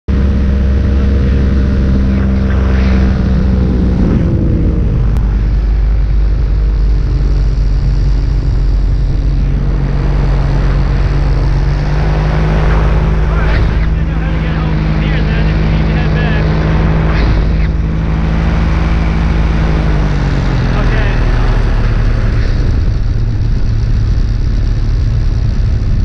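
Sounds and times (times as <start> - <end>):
paramotor engine and propeller: 0.1 - 26.0.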